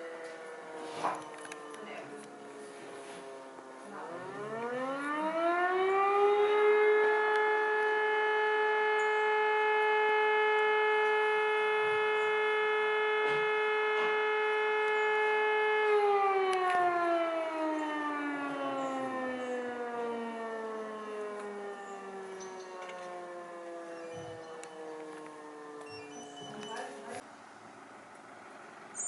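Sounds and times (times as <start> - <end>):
rotor siren wailing: 0.0 - 27.2.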